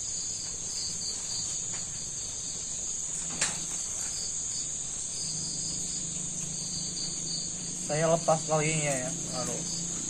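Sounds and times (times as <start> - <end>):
crickets trilling: 0.0 - 10.0
pulsing cricket chirp: 0.0 - 10.0.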